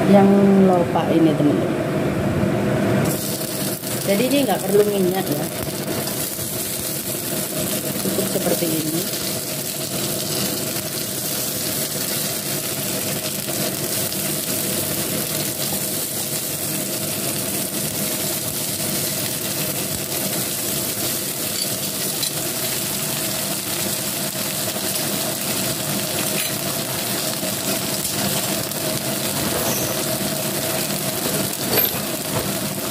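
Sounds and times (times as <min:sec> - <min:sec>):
food sizzling in a pan: 0:03.0 - 0:32.9.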